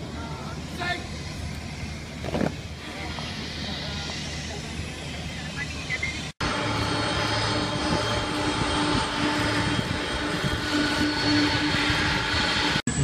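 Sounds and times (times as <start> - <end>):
jet engines rushing and whining: 0.0 - 13.0.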